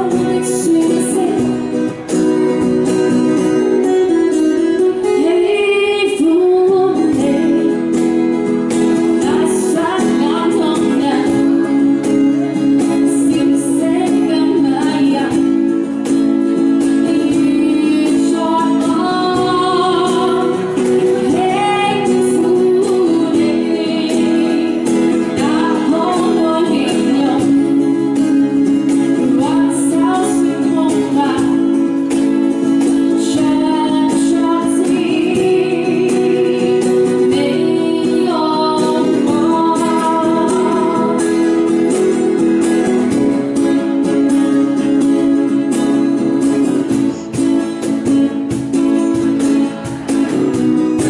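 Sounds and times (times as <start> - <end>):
woman singing: 0.0 - 47.6
acoustic guitar: 0.0 - 51.0
cajon beat: 0.0 - 51.0.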